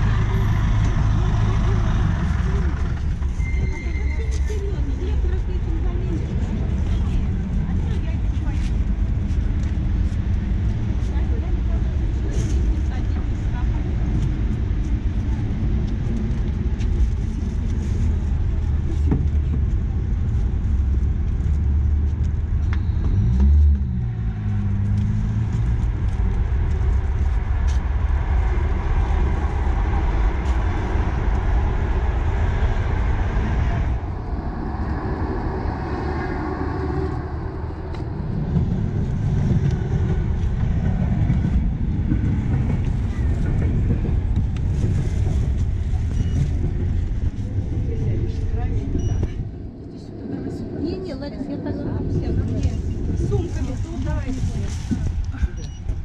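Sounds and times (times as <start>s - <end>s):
diesel engine running: 0.0s - 49.4s.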